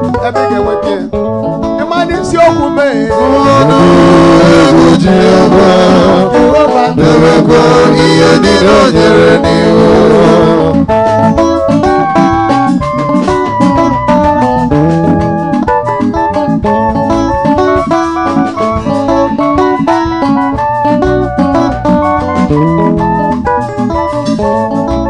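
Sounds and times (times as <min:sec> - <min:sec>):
praise music with singing and band: 0:00.0 - 0:25.0.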